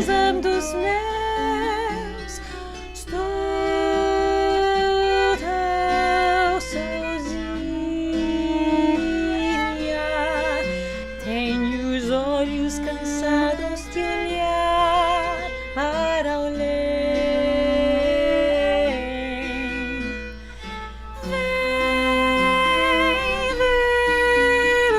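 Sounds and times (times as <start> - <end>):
bowed string instrument: 0.0 - 24.9
plucked guitar: 0.0 - 24.9
woman singing: 0.0 - 24.9.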